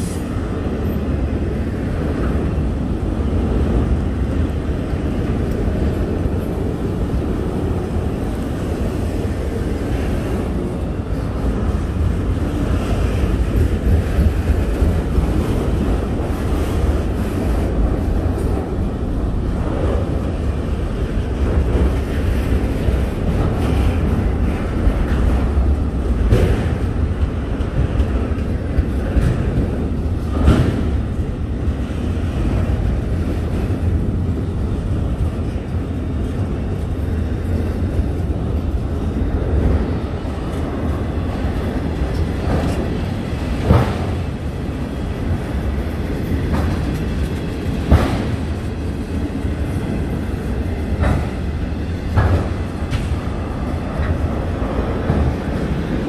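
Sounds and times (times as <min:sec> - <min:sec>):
freight wheels rumbling on track: 0:00.0 - 0:56.0.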